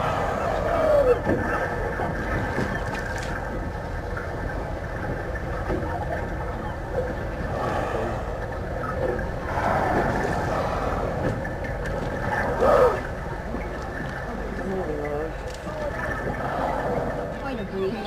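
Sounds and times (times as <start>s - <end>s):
boat engine running: 0.0s - 18.0s
water rushing: 0.0s - 18.0s
wind: 0.0s - 18.0s.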